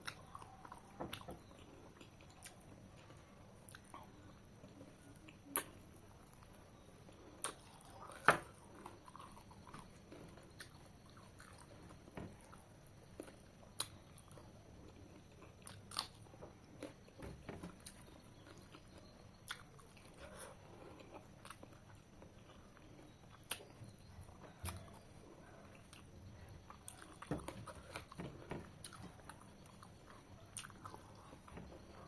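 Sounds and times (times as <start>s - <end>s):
person chewing food: 0.0s - 32.0s.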